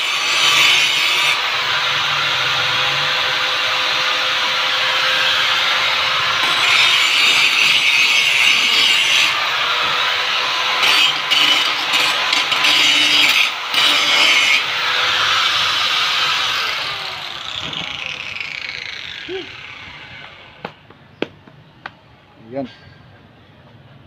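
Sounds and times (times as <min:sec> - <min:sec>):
angle grinder grinding metal: 0:00.0 - 0:20.6.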